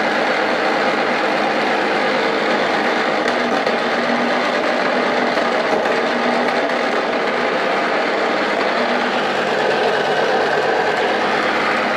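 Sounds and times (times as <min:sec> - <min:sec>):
electric machine running: 0:00.0 - 0:11.9.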